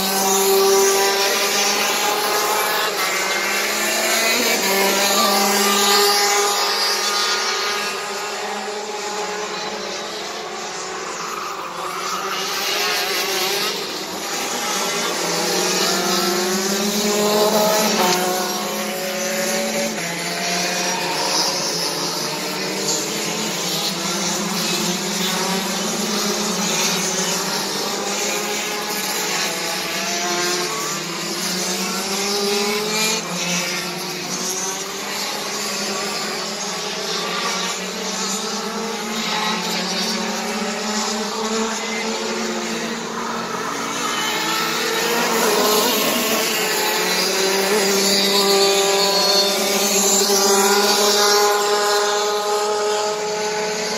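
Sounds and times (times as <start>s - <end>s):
racing kart engines: 0.0s - 53.9s.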